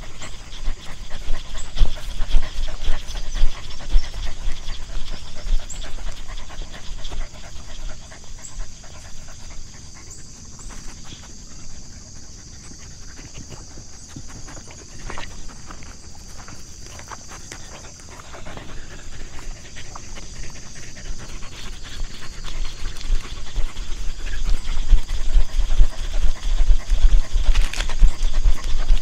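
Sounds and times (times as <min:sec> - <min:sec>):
dog panting rapidly: 0:00.0 - 0:29.0.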